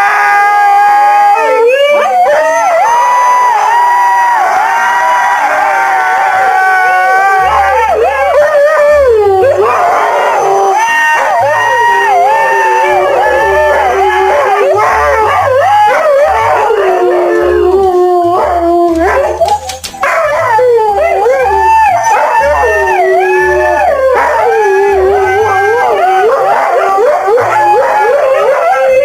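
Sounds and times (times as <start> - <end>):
dog howling: 0.0 - 29.0.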